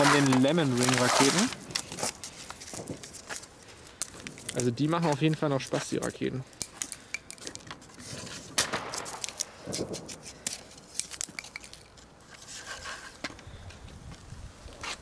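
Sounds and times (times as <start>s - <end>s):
firework rockets being handled: 0.0s - 15.0s.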